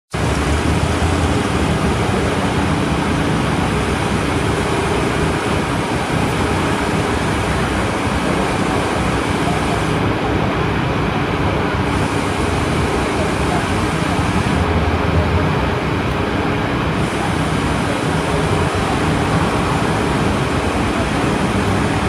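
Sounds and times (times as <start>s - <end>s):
passing vehicles rushing: 0.1s - 22.0s
low engine hum: 0.2s - 22.0s.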